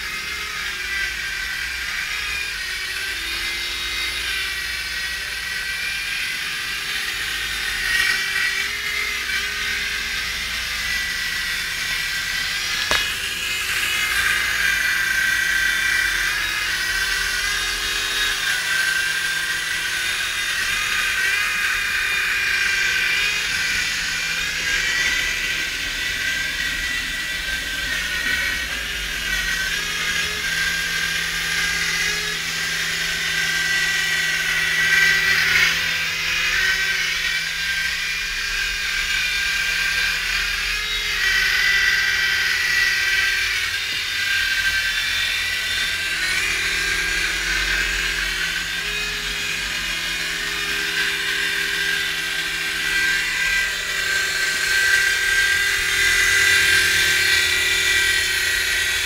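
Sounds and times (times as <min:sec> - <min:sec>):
toy helicopter rotor whine: 0:00.0 - 0:59.0.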